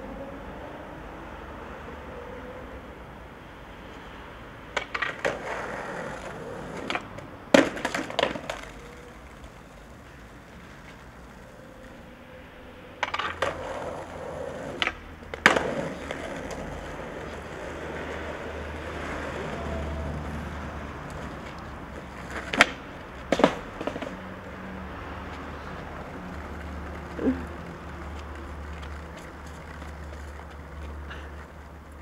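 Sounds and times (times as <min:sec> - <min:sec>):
skateboard wheels rumbling: 0:00.0 - 0:32.0
skateboard clacking on concrete: 0:04.7 - 0:12.0, 0:13.0 - 0:32.0.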